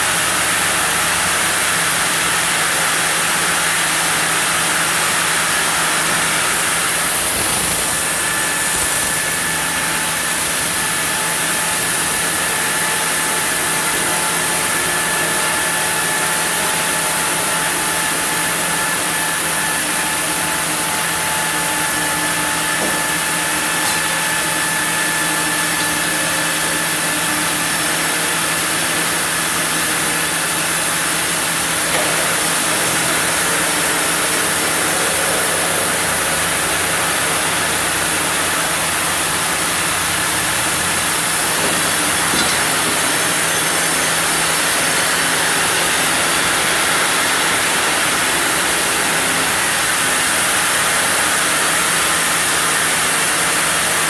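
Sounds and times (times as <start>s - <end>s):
machine hum: 0.0s - 52.8s
saw cutting wood with hissing rasp: 0.9s - 49.2s.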